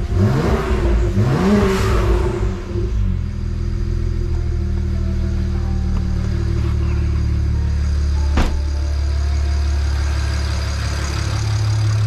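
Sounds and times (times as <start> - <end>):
car engine idling: 0.0 - 12.0
car engine revving: 0.0 - 12.0.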